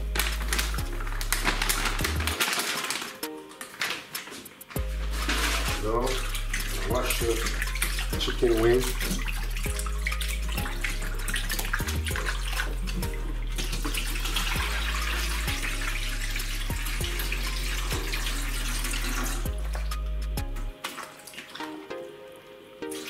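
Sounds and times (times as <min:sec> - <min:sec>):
background music with bass: 0:00.0 - 0:02.4, 0:04.8 - 0:20.8
water poured into sink: 0:00.0 - 0:03.2, 0:03.8 - 0:20.0
running water splashing in sink: 0:00.0 - 0:20.1, 0:20.7 - 0:22.1.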